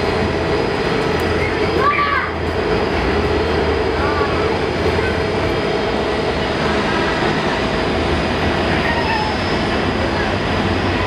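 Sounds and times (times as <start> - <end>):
jet aircraft rumble: 0.0 - 11.0.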